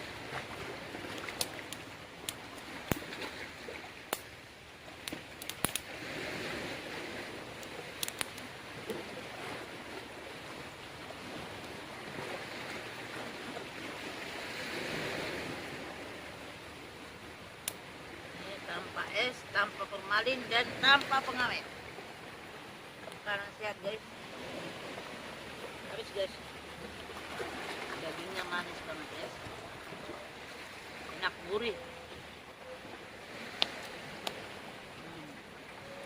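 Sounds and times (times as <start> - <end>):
water washing against shore: 0.0 - 36.0.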